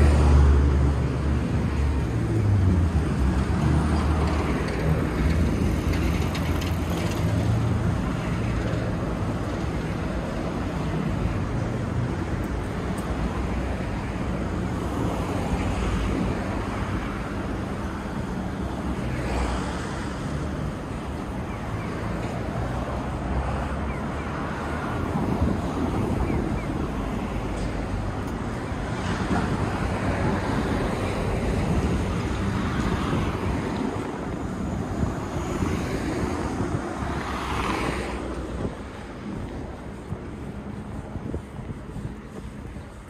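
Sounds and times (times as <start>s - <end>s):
hum of passing cars: 0.0s - 43.0s
vehicles passing by: 0.0s - 43.0s.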